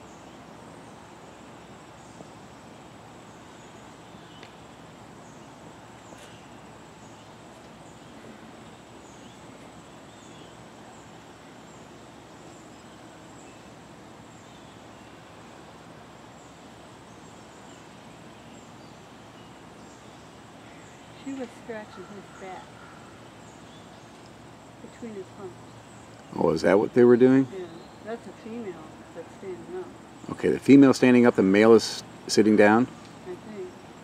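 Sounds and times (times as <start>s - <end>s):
outdoor background noise: 0.0s - 34.0s.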